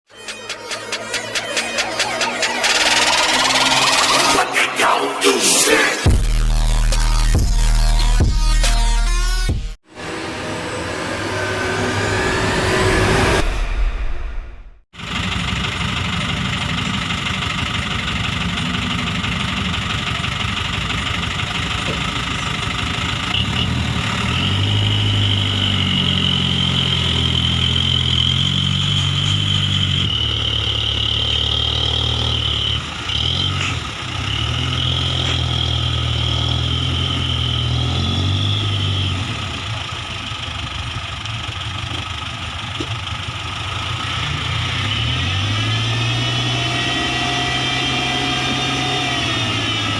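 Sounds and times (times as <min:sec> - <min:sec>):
truck engine revving: 0:00.1 - 0:49.9.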